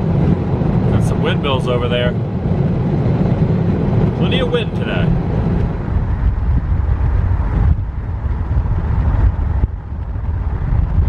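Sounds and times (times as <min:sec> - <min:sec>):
car on highway: 0:00.0 - 0:11.0
gusty wind on microphone: 0:00.0 - 0:11.0.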